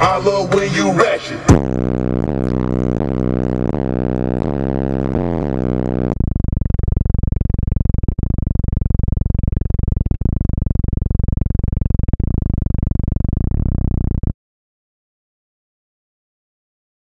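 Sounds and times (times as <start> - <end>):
heavy bass music through subwoofers: 0.0 - 14.3.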